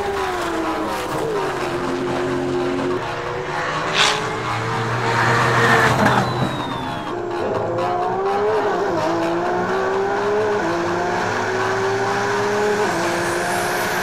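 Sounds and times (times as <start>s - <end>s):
car racing past: 0.0s - 14.0s.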